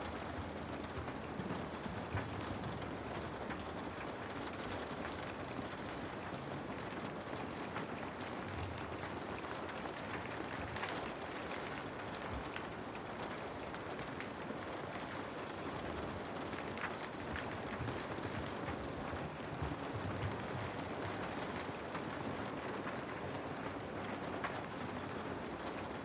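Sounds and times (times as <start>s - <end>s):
rain on a window: 0.0s - 26.0s.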